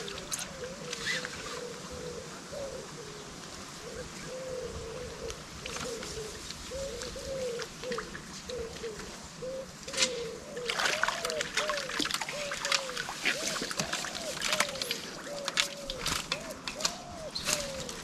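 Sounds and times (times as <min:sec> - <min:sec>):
bird cooing: 0:00.0 - 0:18.0.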